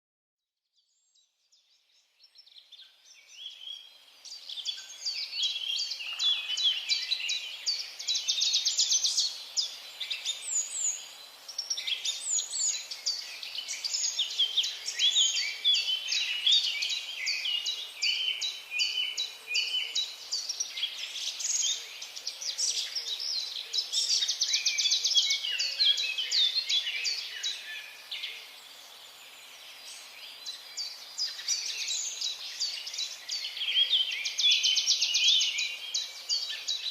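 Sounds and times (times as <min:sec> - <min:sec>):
forest birds chirping and trilling: 0:00.7 - 0:36.9.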